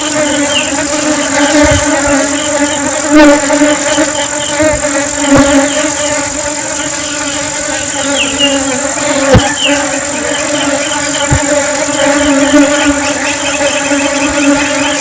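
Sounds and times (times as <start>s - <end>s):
honeybees buzzing: 0.0s - 15.0s
low thumps: 0.0s - 15.0s.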